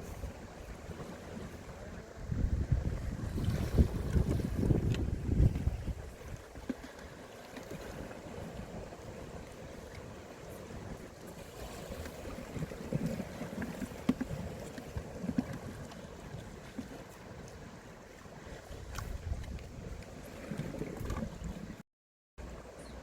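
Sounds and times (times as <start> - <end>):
wind on microphone: 0.0 - 17.8, 18.4 - 21.8
sea water washing: 0.0 - 21.8.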